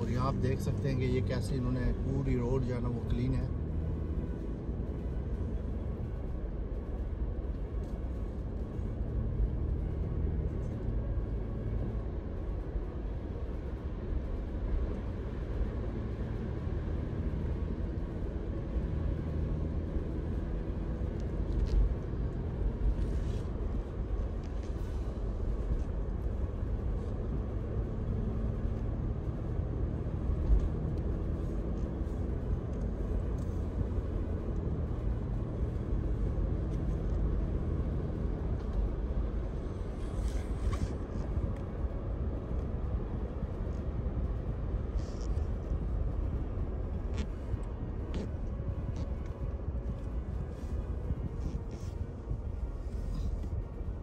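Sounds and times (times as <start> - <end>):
car tyre and engine rumble: 0.0 - 54.0.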